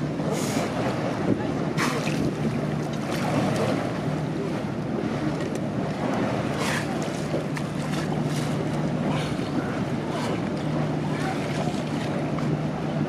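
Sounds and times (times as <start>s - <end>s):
motor boat engine droning: 0.0s - 13.0s
water rushing along hull: 0.0s - 13.0s
wind buffeting microphone: 0.0s - 13.0s.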